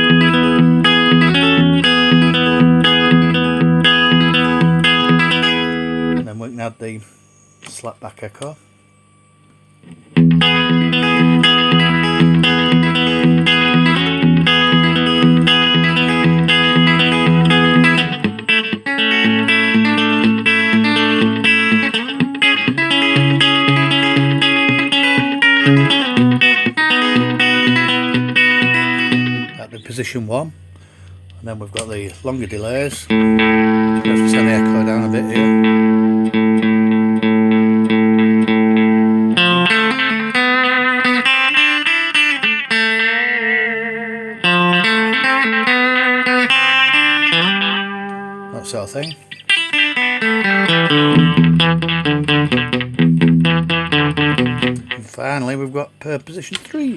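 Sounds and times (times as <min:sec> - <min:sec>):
electric guitar chords with echo: 0:00.0 - 0:06.4, 0:09.4 - 0:56.9.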